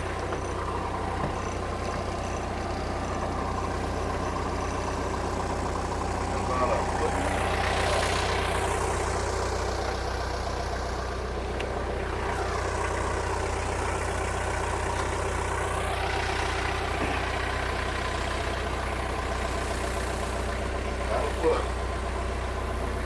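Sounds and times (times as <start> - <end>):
forklift engine idling: 0.0 - 23.0.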